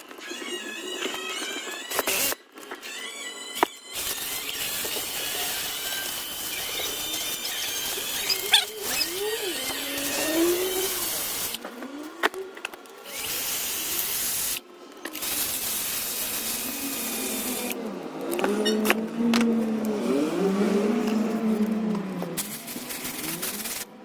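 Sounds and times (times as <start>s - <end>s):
small electric motor whining: 0.0s - 24.0s.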